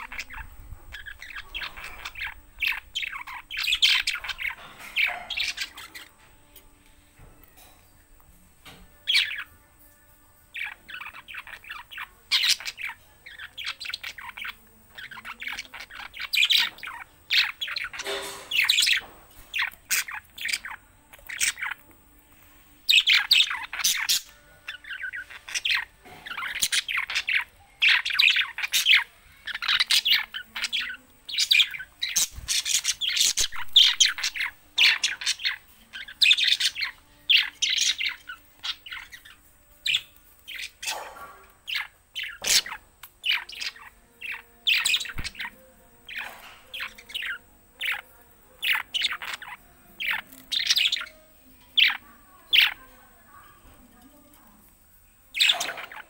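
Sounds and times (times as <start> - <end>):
budgerigars chirping: 0.0 - 6.1, 10.6 - 21.9, 22.9 - 51.2, 51.8 - 52.9, 55.3 - 56.0.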